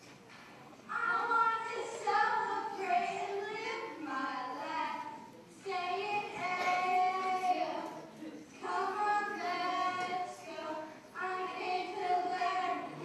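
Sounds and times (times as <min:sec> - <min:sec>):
children singing: 0:00.9 - 0:13.0.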